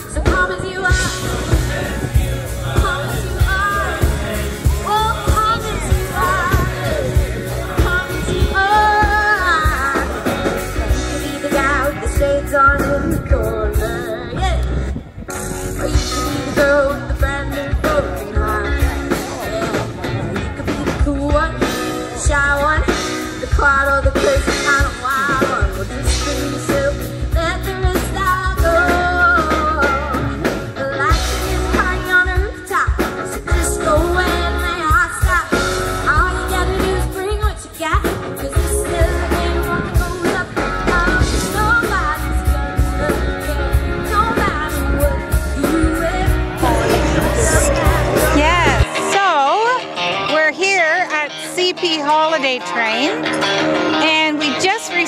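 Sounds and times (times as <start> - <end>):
drum kit: 0.0 - 14.2, 15.2 - 52.6
woman singing into microphone: 0.0 - 15.0, 15.7 - 19.8, 20.4 - 49.7
electric guitar: 0.0 - 55.0.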